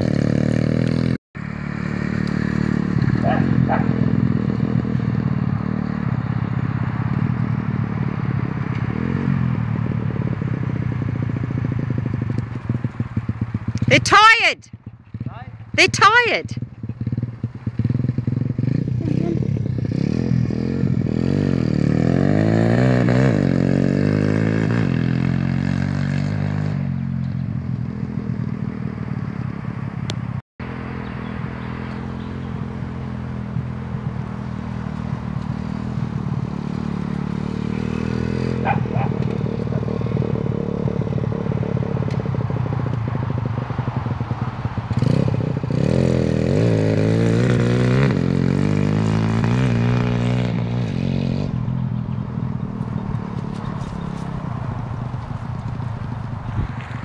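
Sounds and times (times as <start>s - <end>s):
motorbike engine revving: 0.0s - 30.0s, 30.6s - 57.0s.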